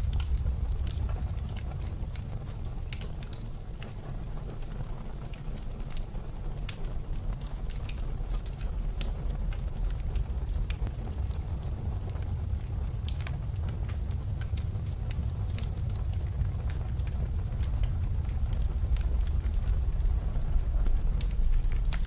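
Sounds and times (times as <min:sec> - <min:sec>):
blizzard wind rumble: 0:00.0 - 0:22.0
wood fire crackling: 0:00.0 - 0:22.0.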